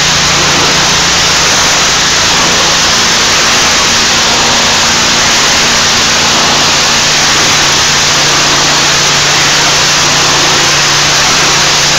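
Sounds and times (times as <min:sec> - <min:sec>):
engine humming: 0:00.0 - 0:11.9
pressure washer spraying water: 0:00.0 - 0:11.9.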